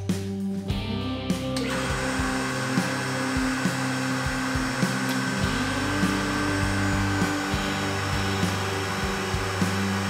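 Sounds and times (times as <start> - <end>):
background music: 0.0 - 10.0
tube bender motor running: 1.6 - 10.0.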